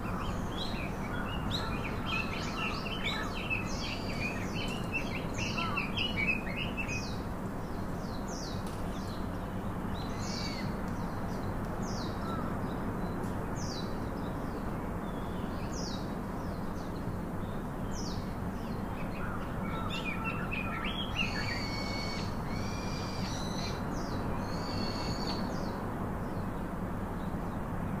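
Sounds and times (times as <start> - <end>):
small birds chirping: 0.0 - 27.6
steady background hiss: 0.0 - 28.0.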